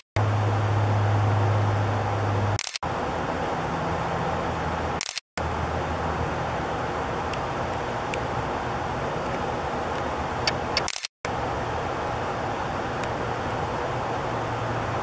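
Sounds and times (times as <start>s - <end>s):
low hum: 0.2s - 15.0s
steady background noise: 0.2s - 15.0s.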